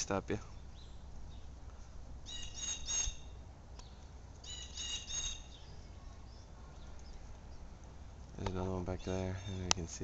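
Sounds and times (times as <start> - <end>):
blue jay calling: 0.4 - 10.0.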